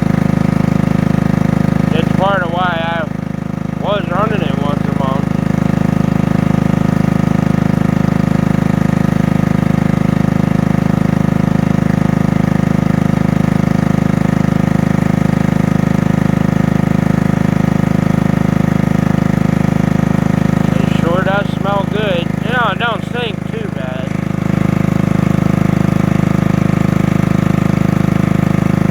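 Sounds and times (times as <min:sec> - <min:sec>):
generator engine running: 0:00.0 - 0:28.9.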